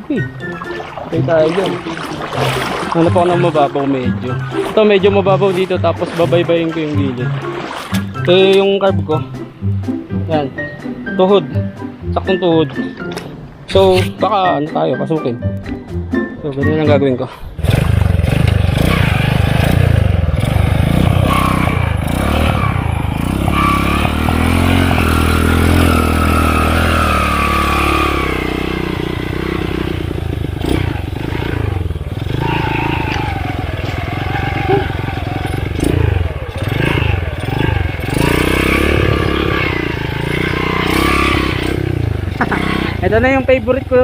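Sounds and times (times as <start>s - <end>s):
motorcycle engine running: 0.0s - 9.4s, 17.5s - 44.0s.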